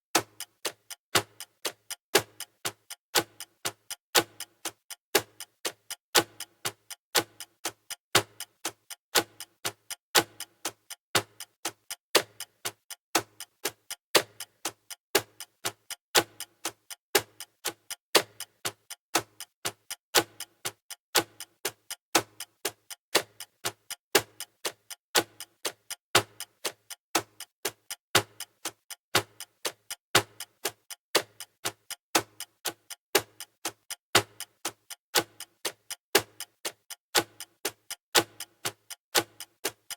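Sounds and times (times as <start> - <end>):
clock ticking: 0.2 - 39.9.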